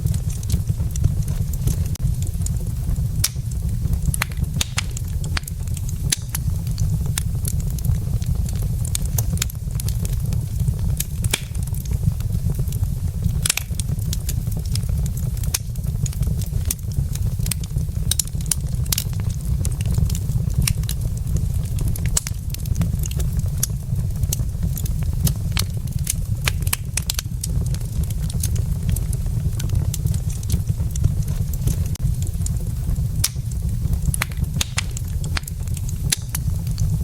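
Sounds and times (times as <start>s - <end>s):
fire low rumble: 0.0s - 37.0s
logs crackling and popping: 0.0s - 37.0s.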